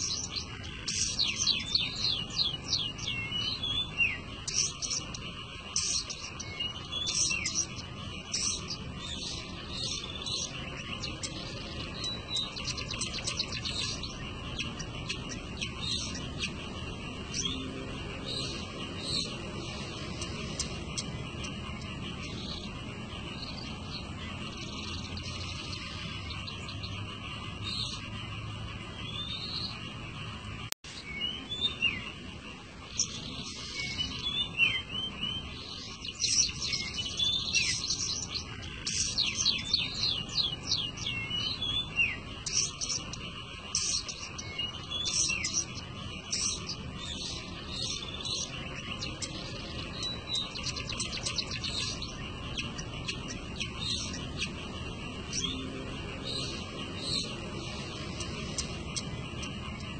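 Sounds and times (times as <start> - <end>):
bird singing chirps and whistles: 0.0 - 28.2, 30.9 - 32.2, 32.9 - 59.9.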